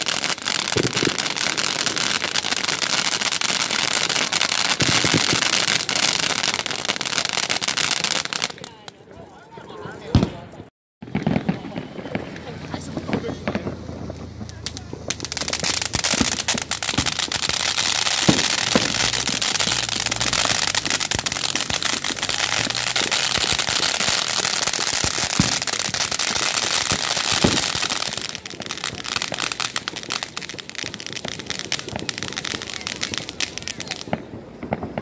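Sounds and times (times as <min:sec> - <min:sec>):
fireworks hissing and crackling: 0:00.0 - 0:35.0.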